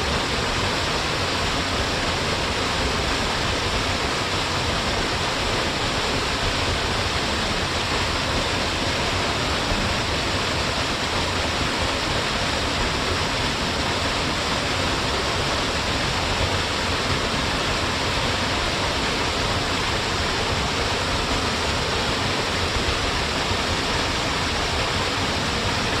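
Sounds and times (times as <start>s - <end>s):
small waterfall rushing: 0.0s - 26.0s.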